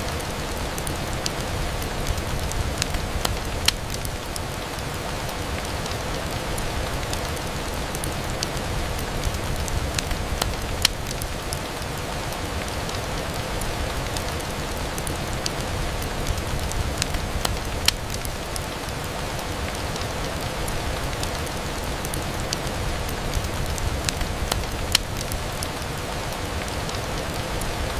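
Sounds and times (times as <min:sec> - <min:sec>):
rain pattering on a window: 0:00.0 - 0:27.9.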